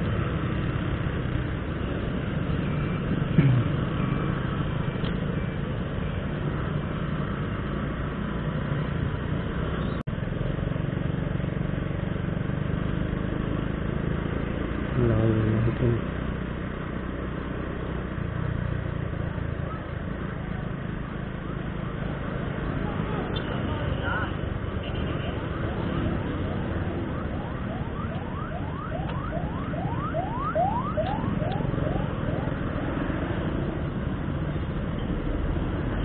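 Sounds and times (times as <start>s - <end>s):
road and wind noise: 0.0s - 36.0s.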